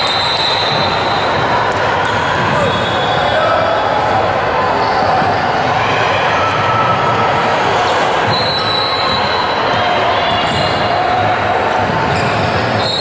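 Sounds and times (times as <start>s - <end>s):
crowd of spectators: 0.0s - 13.0s.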